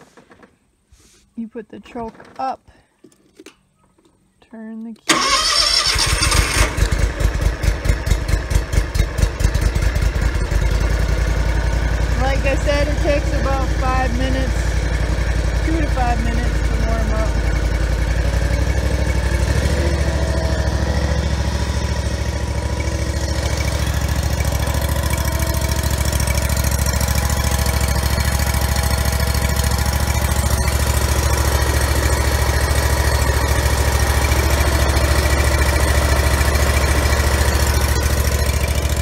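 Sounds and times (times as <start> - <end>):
mower engine idling: 5.1 - 39.0.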